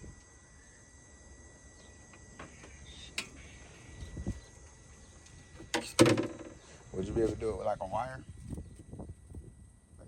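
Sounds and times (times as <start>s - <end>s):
high-pitched insect-like whine: 0.0s - 10.0s.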